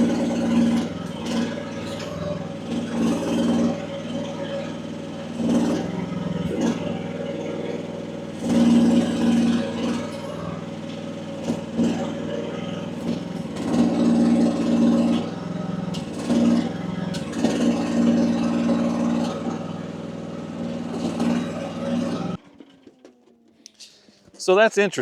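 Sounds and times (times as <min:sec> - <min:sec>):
excavator engine under hydraulic load: 0:00.0 - 0:24.4.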